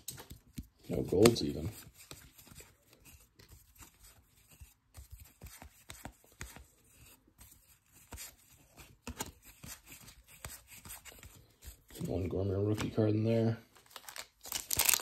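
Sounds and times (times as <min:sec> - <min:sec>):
cards and wrappers rustling: 0:00.0 - 0:15.0.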